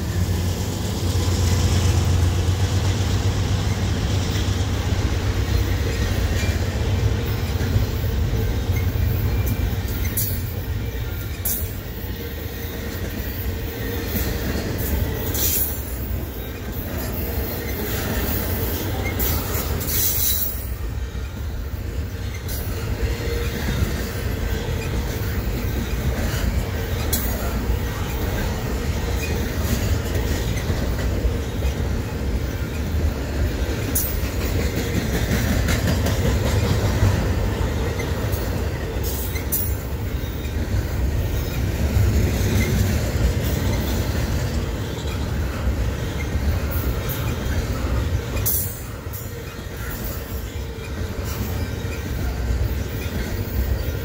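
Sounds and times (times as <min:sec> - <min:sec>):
diesel locomotive rumble: 0:00.0 - 0:54.0
freight cars rolling on rails: 0:00.0 - 0:54.0.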